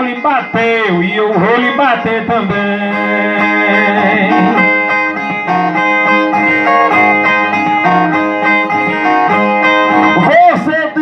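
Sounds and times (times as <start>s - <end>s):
steel-strung guitar plucked: 0.0s - 11.0s.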